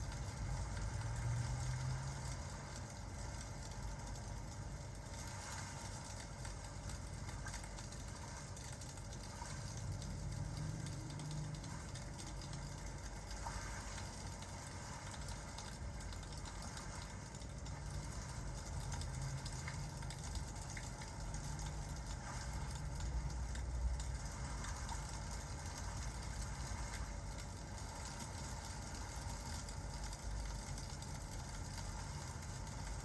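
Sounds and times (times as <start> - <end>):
fireplace crackling: 0.0 - 33.0
rain: 0.0 - 33.0.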